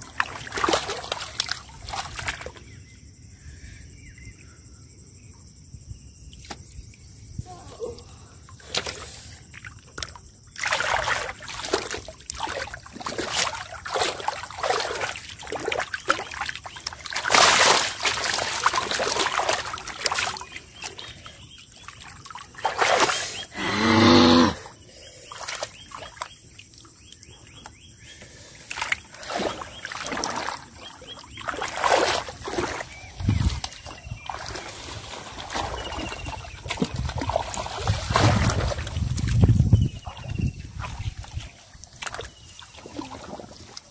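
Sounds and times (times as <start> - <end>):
muddy water splashing: 0.0 - 2.8, 7.8 - 23.7, 24.4 - 43.9.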